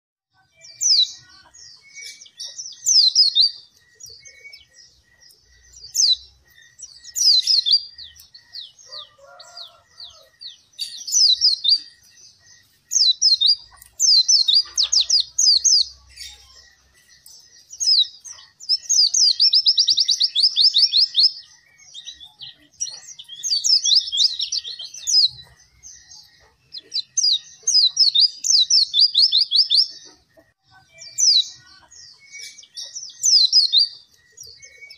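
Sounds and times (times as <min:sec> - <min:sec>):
bird twittering song: 0:00.3 - 0:34.9.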